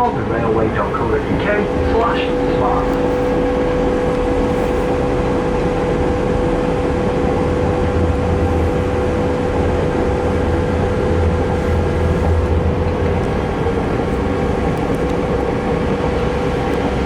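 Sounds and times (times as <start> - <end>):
diesel engine drone: 0.0 - 17.0
train cabin running noise: 0.0 - 17.0.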